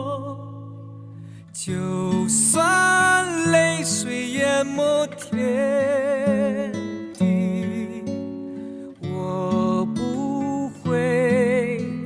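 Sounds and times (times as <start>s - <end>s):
acoustic guitar: 0.0s - 12.0s
slow sung ballad: 0.0s - 12.0s.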